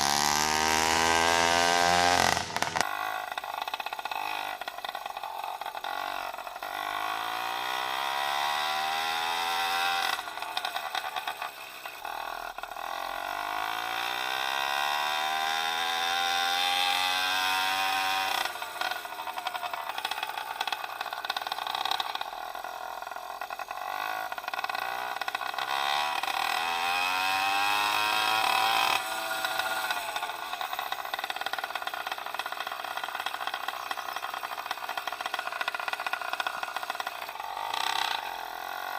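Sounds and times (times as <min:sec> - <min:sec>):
two-stroke bicycle engine revving: 0:00.0 - 0:38.9.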